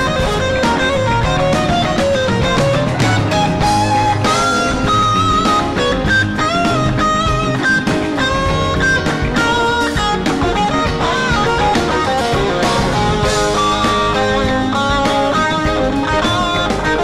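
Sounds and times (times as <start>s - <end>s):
band playing funk jam: 0.0s - 17.0s
lead guitar line with bends: 0.0s - 17.0s.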